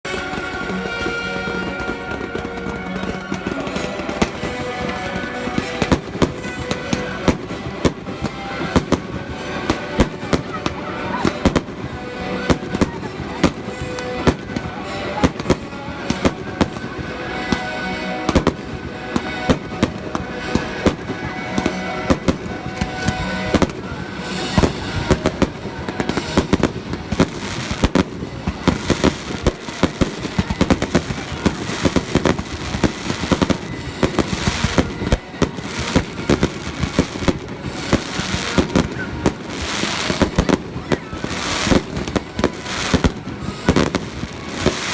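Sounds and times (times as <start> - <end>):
fireworks bangs and crackles: 0.0 - 44.9
music playing: 0.0 - 44.9.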